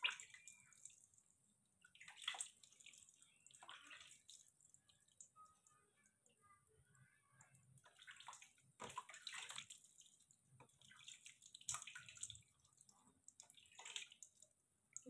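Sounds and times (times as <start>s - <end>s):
water splashing and dripping: 0.0s - 6.3s, 7.4s - 15.0s.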